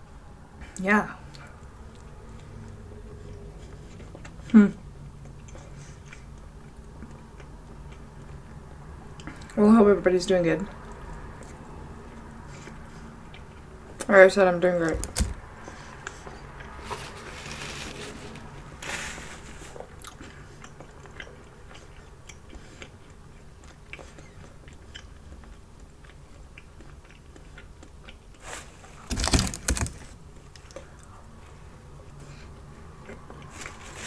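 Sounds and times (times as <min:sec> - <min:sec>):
chewing food: 0:01.3 - 0:09.6, 0:10.7 - 0:14.1, 0:15.4 - 0:34.0.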